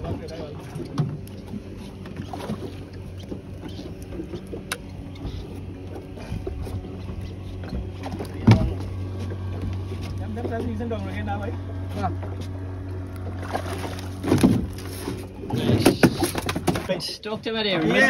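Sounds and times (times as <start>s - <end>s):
boat motor idling: 0.0s - 18.0s
water against hull: 0.0s - 18.0s.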